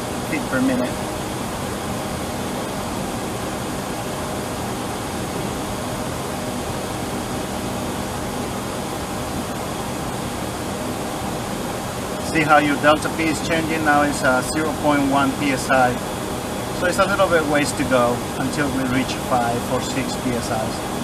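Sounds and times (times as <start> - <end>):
air conditioning airflow rushing: 0.0 - 21.0
faint steady hum: 0.0 - 21.0.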